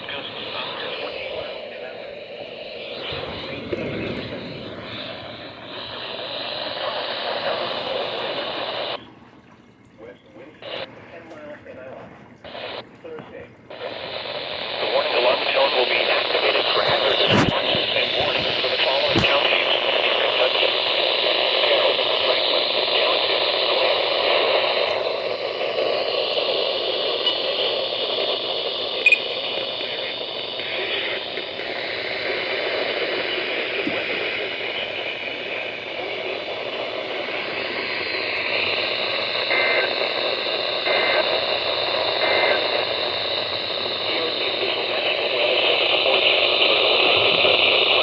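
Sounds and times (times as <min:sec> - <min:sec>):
radio static hiss: 0:00.0 - 0:09.0, 0:10.0 - 0:48.0
radio voice: 0:00.0 - 0:09.0, 0:10.0 - 0:48.0.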